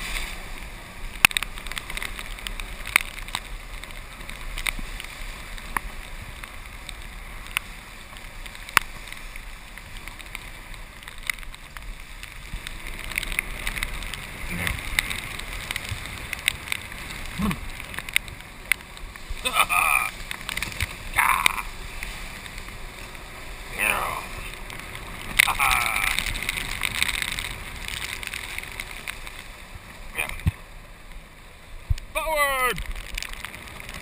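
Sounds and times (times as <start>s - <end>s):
golf cart driving: 0.0s - 34.0s.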